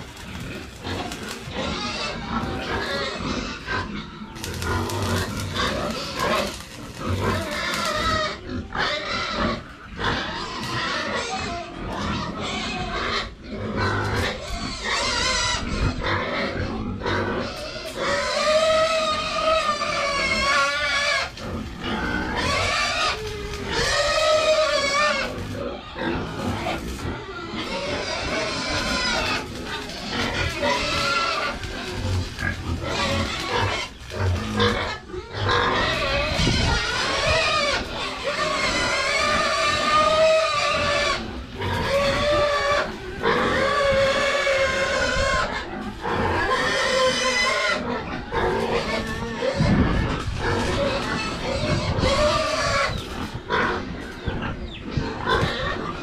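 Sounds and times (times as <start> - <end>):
pigs squealing: 0.0 - 56.0.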